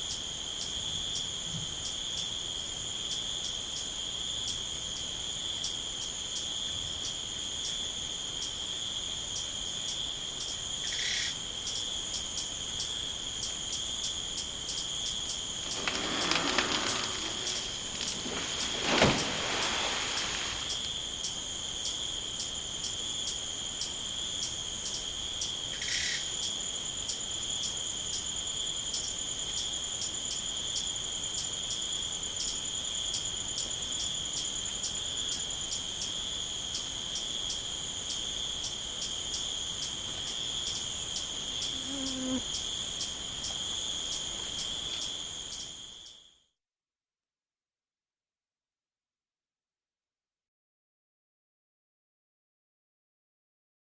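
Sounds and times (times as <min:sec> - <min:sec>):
crickets chirping: 0:00.0 - 0:46.4.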